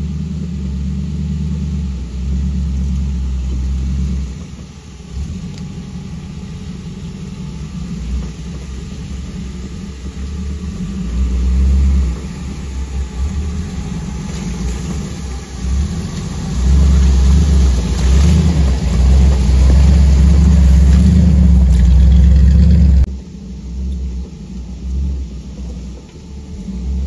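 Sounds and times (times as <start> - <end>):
off-road vehicle engine revving: 0.0 - 23.1.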